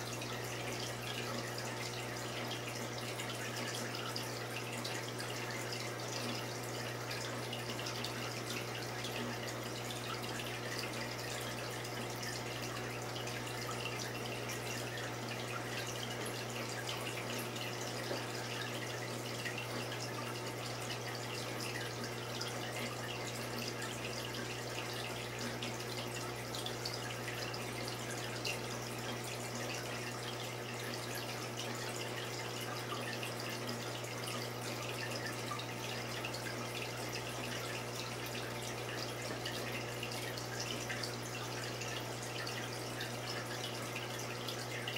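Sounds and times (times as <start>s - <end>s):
aquarium water trickling: 0.0s - 44.9s.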